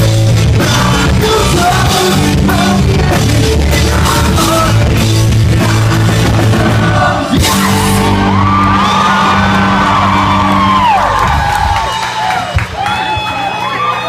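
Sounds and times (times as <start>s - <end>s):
pop-punk band playing live: 0.0s - 13.2s
crowd screaming and cheering: 0.0s - 14.0s.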